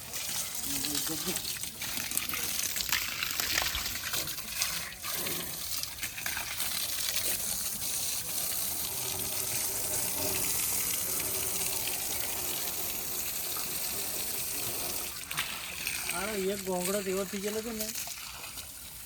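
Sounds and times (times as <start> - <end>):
running water gushing: 0.0 - 19.0.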